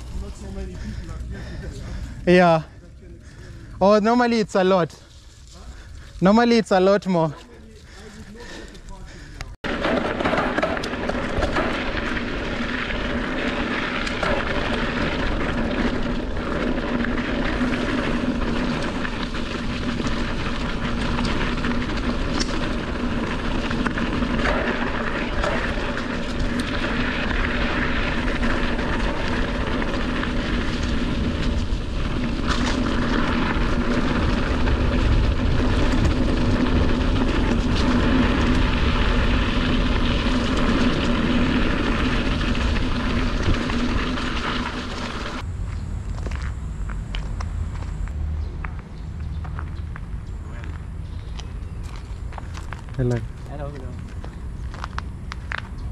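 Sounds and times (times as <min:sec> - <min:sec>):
bike tyre noise on dirt: 0:00.0 - 0:55.9.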